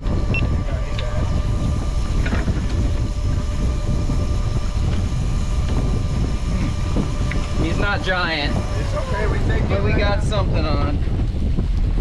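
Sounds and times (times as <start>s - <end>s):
faint steady whine: 0.0s - 12.0s
wind and water around boat: 0.0s - 12.0s.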